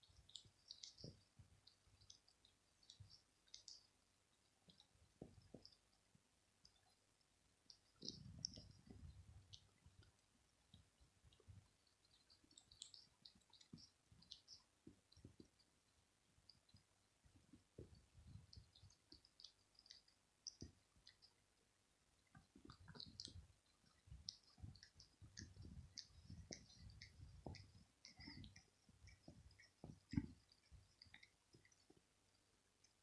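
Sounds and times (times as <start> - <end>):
cat licking its fur: 0.0 - 6.9, 7.7 - 15.8, 16.4 - 21.5, 22.2 - 33.0.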